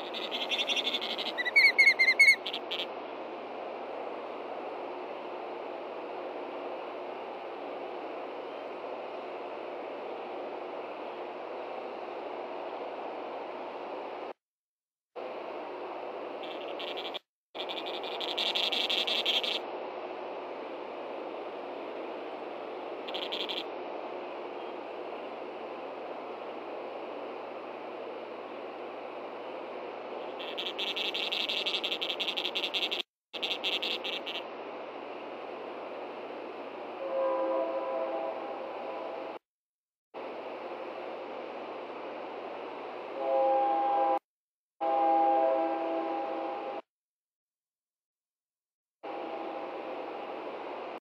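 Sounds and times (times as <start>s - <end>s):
steady background hiss: 0.0s - 14.3s, 15.2s - 39.4s, 40.2s - 44.0s, 49.1s - 51.0s.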